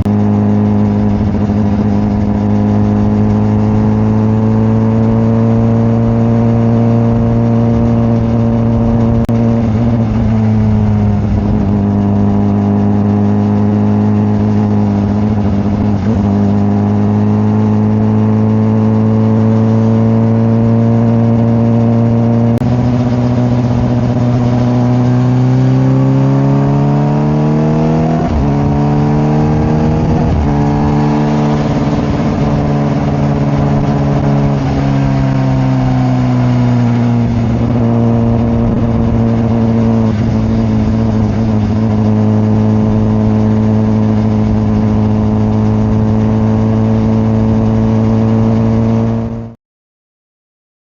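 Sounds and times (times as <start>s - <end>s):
motorcycle engine accelerating: 0.0s - 49.6s.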